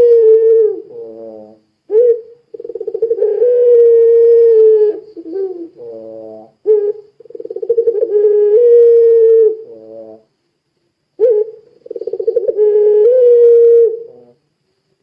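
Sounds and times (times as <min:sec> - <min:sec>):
turtle dove cooing: 0:00.0 - 0:10.3, 0:11.2 - 0:14.4.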